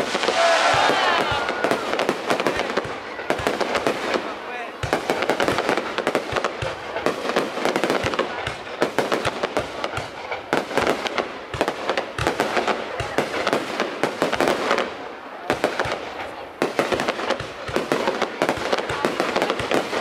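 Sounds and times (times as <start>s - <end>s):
fireworks crackle: 0.0s - 20.0s
fireworks cracks and bangs: 0.0s - 20.0s.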